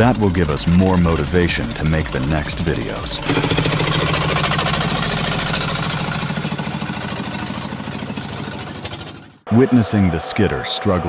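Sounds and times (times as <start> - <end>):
truck engine knocking: 0.0 - 9.5.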